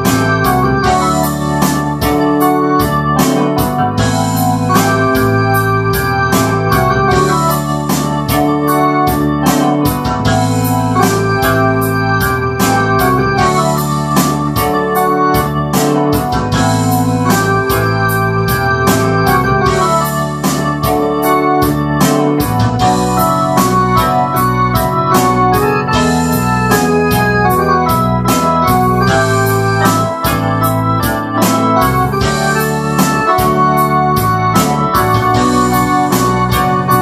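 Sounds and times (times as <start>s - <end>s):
organ-like synthesizer chords: 0.0s - 37.0s
steady beat: 0.0s - 37.0s
synth bass line: 0.0s - 37.0s.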